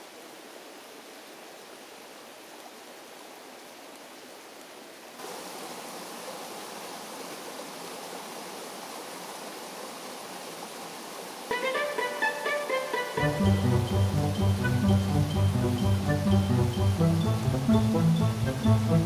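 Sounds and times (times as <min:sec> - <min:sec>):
stream rushing: 0:00.0 - 0:19.0
waterfall cascading over rocks: 0:00.0 - 0:19.0.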